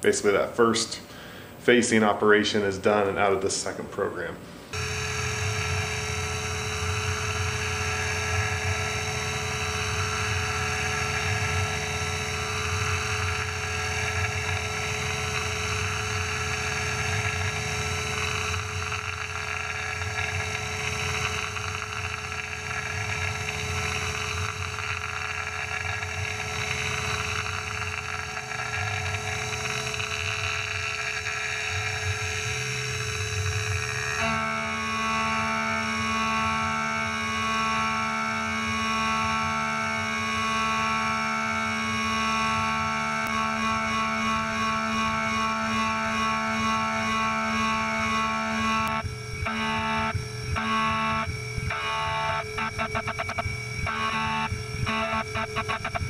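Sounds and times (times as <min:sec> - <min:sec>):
metal cutting and coolant noise: 0:04.8 - 0:56.0
milling machine spindle whine: 0:04.8 - 0:56.0.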